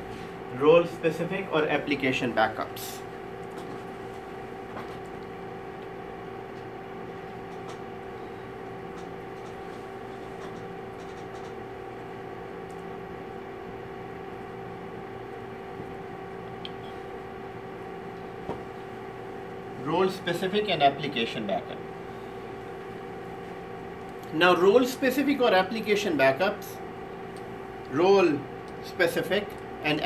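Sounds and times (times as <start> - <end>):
ventilation machine hum: 0.0 - 30.0.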